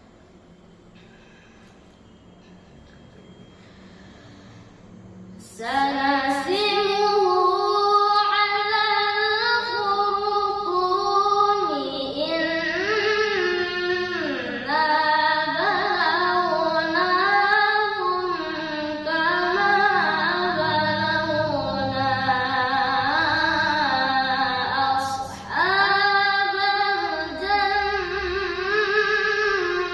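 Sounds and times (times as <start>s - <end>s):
boy reciting melodically: 5.4s - 29.9s.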